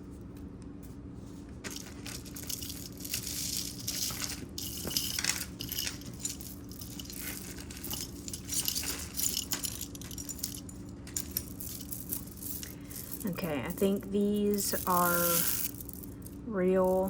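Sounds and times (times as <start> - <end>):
faint low hum: 0.0 - 17.0
beads clinking and rustling: 1.6 - 17.0.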